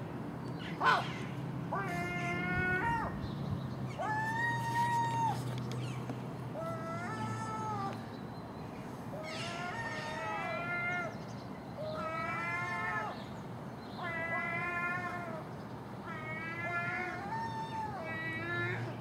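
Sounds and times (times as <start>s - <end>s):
gulls mewing calls: 0.6s - 19.0s.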